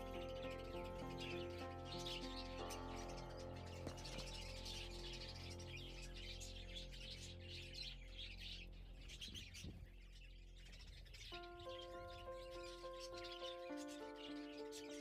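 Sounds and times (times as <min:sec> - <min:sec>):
budgerigars chirping: 0:00.0 - 0:15.0
soft background music: 0:00.0 - 0:15.0.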